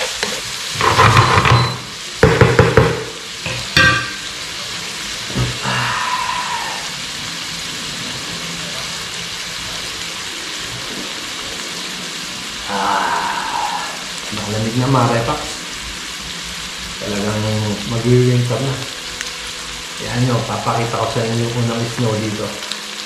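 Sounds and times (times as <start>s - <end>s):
meat sizzling in a skillet: 0.0s - 23.0s.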